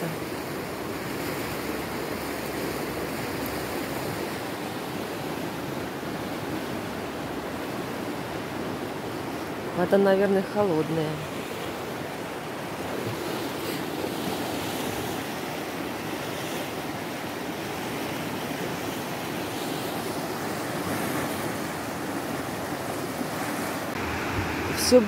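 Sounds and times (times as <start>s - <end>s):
mountain river rushing: 0.0s - 25.0s.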